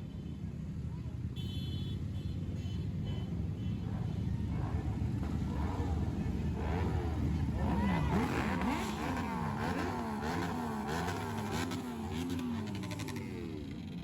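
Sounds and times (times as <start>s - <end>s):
motorcycle engines revving: 2.4s - 14.0s.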